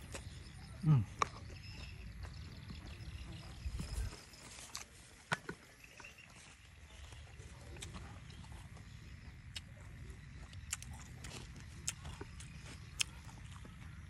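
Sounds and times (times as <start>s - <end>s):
chewing and crunching: 0.0s - 14.0s.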